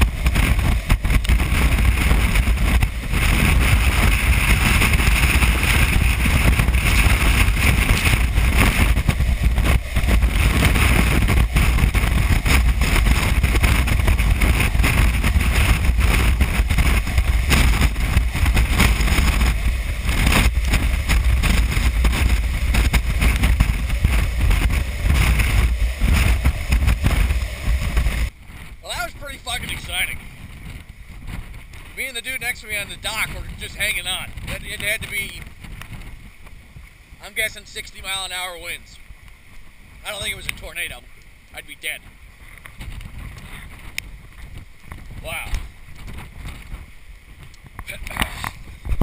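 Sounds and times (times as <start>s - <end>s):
storm wind gusts on microphone: 0.0s - 49.0s.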